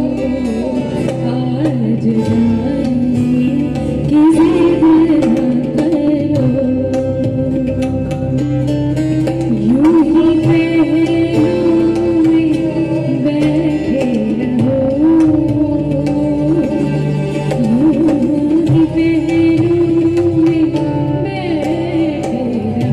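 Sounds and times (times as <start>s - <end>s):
acoustic guitar: 0.0s - 22.9s
keyboard: 0.0s - 22.9s
ornamented melody line: 0.0s - 22.9s
tabla strokes: 0.0s - 22.9s.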